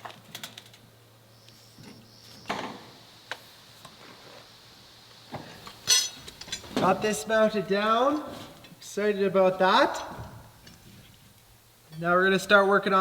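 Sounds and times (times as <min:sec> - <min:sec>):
low steady hum: 0:00.3 - 0:13.0.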